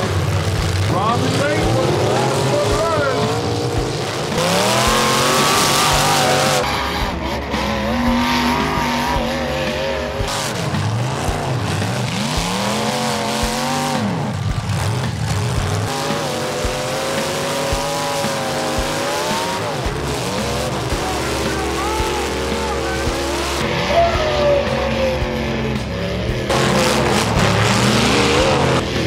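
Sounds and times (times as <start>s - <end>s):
car engines revving hard: 0.0s - 29.0s
tires spinning in dirt: 0.0s - 29.0s.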